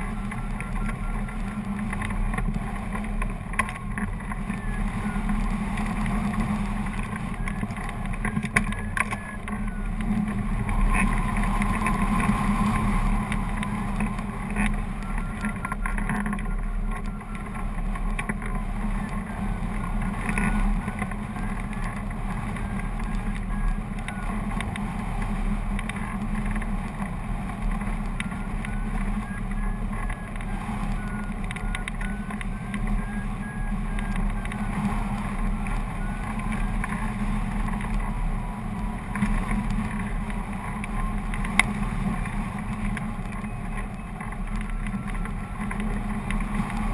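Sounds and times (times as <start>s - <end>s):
variometer beeps gliding in pitch: 0.0s - 46.9s
wind rushing over microphone: 0.0s - 46.9s.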